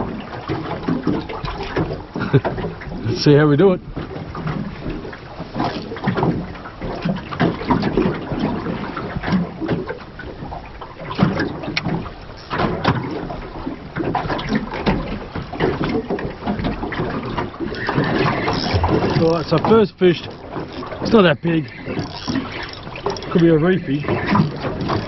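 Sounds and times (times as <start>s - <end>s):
knocks and splashes: 0.0s - 25.0s
sea slapping against boat hull: 0.0s - 25.0s.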